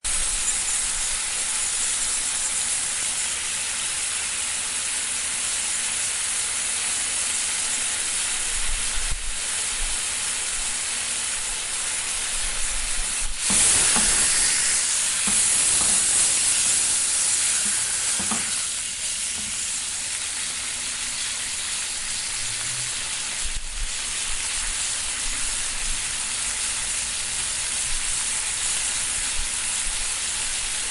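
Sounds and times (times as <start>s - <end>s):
steak sizzling in a frying pan: 0.1s - 30.9s.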